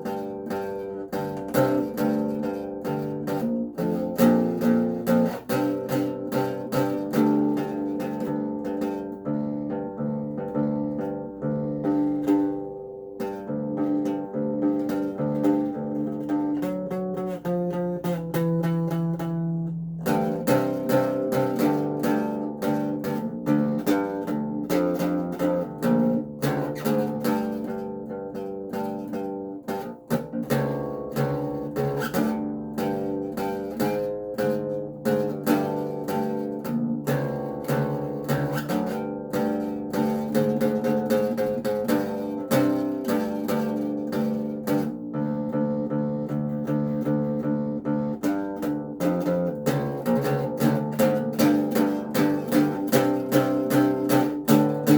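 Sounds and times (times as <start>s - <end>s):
acoustic bass guitar plucked: 0.0s - 54.9s.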